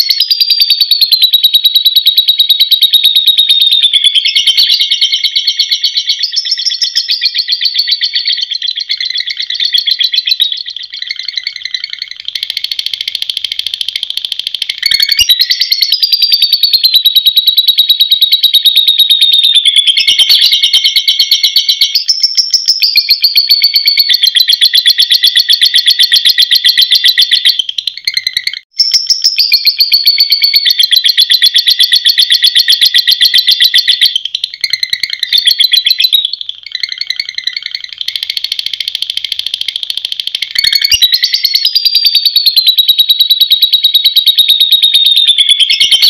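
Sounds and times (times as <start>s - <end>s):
lovebird chattering trill: 0.0s - 46.0s.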